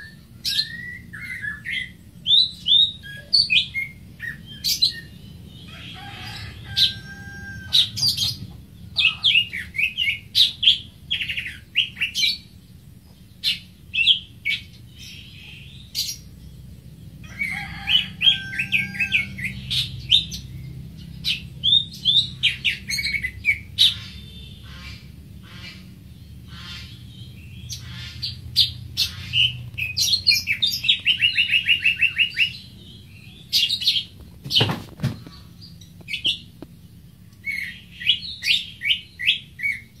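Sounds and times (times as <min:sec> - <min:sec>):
bird trill: 0:00.0 - 0:12.6, 0:17.2 - 0:34.1, 0:37.4 - 0:40.0
bird chirping: 0:00.0 - 0:40.0.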